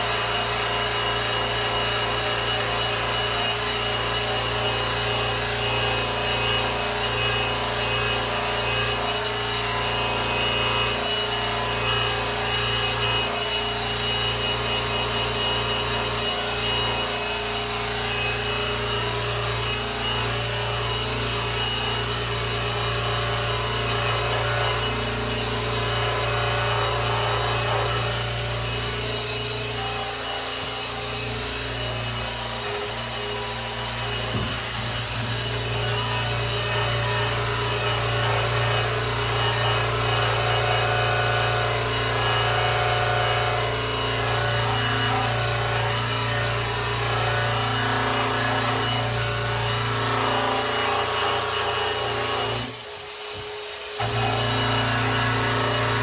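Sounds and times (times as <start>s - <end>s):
power polisher running: 0.0s - 56.0s.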